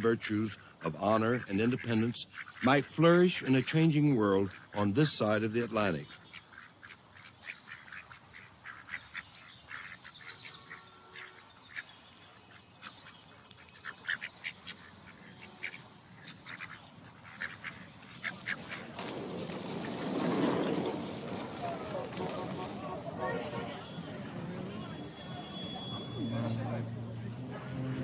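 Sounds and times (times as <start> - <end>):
birds calling: 0.0 - 27.1.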